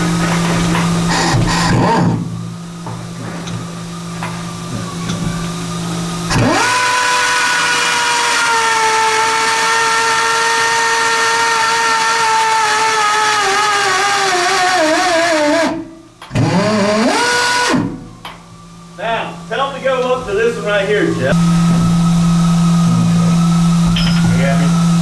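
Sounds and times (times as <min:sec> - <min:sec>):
tube roller motor whine: 0:00.0 - 0:25.0.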